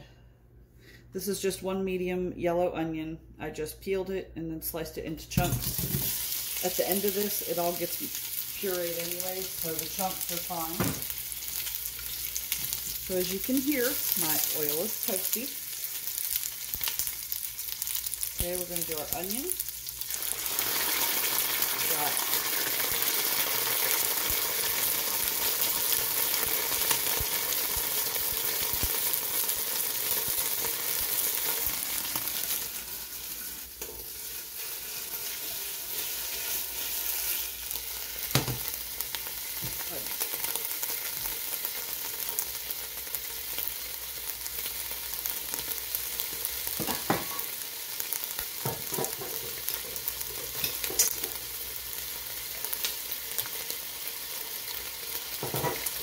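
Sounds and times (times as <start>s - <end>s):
onions sizzling in oil: 5.4s - 56.0s.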